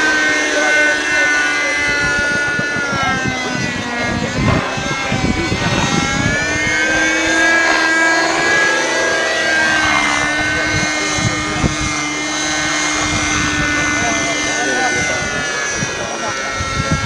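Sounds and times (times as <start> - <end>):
model helicopter motor whine: 0.0 - 17.0
wind buffeting microphone: 0.0 - 17.0.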